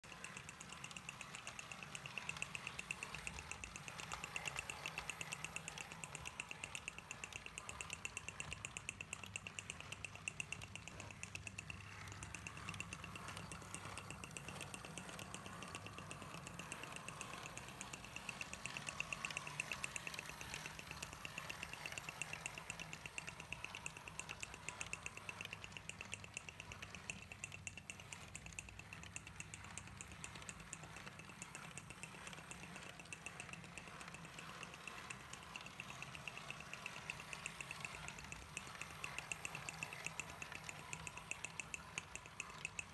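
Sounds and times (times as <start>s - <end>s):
fast even clicking: 0.0s - 42.9s
model train motor whirring: 0.0s - 42.9s.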